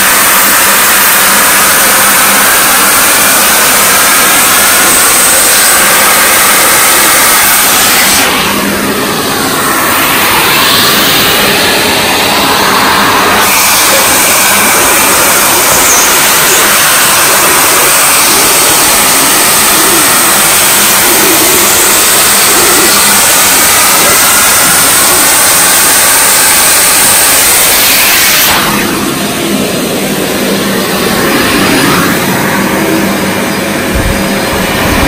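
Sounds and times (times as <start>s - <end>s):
vacuum cleaner on curtains: 0.0s - 35.0s.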